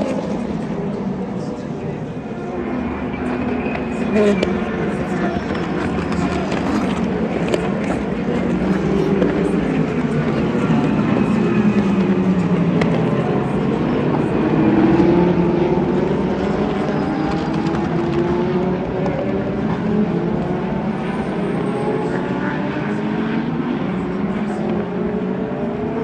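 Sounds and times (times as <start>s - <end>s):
race car engines passing: 0.0s - 26.0s.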